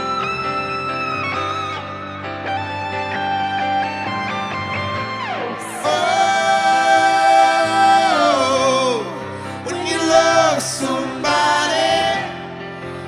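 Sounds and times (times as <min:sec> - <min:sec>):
soft musical accompaniment: 0:00.0 - 0:13.0.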